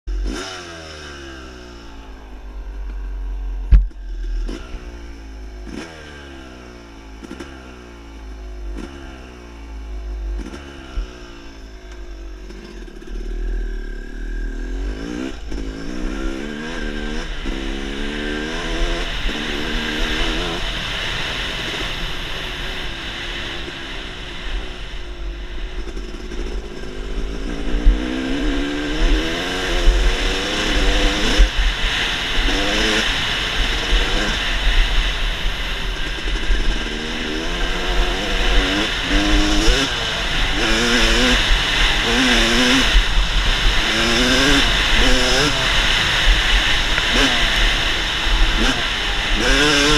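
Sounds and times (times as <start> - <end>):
dirt bike engine revving: 0.1 - 49.9.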